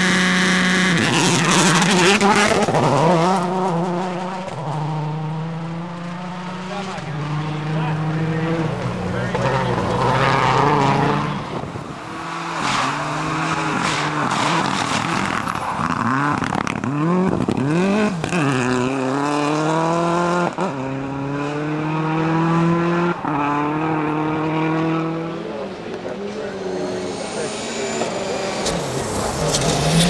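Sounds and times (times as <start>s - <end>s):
rally car engine revving hard: 0.0s - 30.0s.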